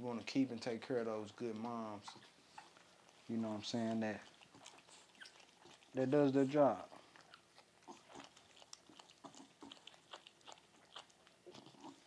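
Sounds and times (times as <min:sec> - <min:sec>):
puppies nursing wet smacking: 0:00.0 - 0:12.0.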